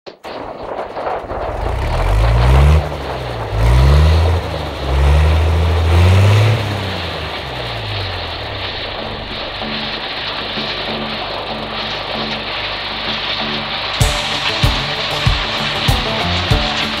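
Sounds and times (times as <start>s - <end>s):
heavy vehicle engine pulling hard: 1.4s - 17.0s.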